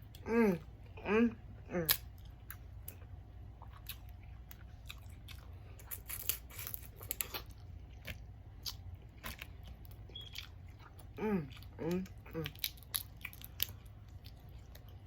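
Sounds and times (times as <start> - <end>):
steady low hum: 0.0 - 15.0
crunching and chewing: 1.7 - 15.0.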